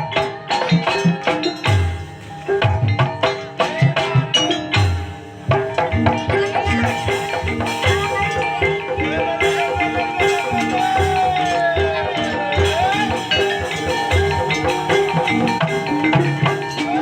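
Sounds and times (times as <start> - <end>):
gamelan mallet instruments: 0.0 - 17.0.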